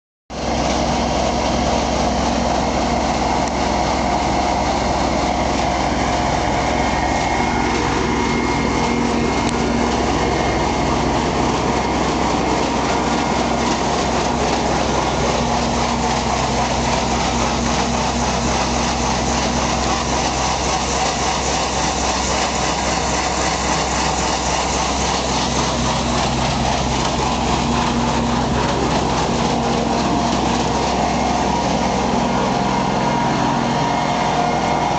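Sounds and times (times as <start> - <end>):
diesel truck engine running: 0.4 - 34.9.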